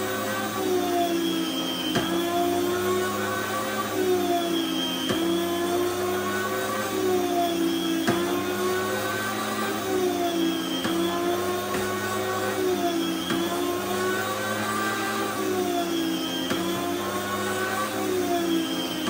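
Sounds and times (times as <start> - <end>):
deli slicer motor humming: 0.0 - 19.0.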